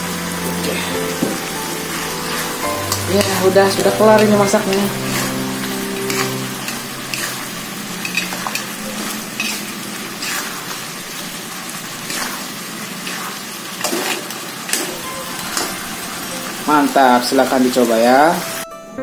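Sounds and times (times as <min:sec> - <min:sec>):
food sizzling in a wok: 0:00.0 - 0:18.6
metal spatula scraping a pan: 0:00.6 - 0:17.8.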